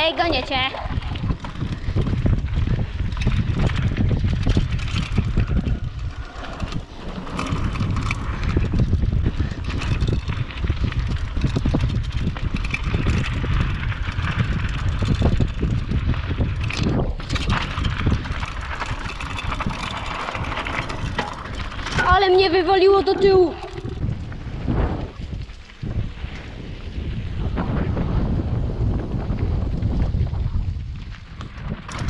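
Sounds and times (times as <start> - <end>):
bike rattling: 0.0 - 32.0
wind buffeting microphone: 0.0 - 32.0.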